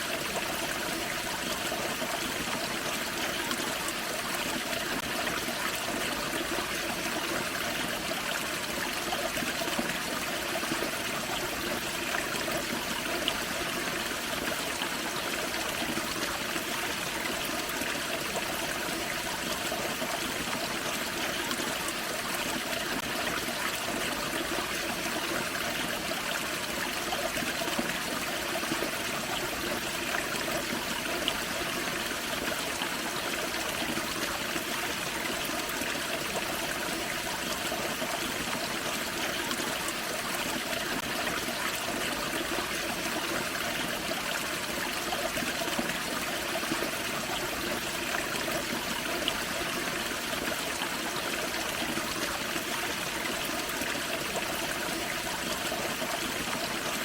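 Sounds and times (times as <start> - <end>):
waterfall and creek running: 0.0 - 57.0.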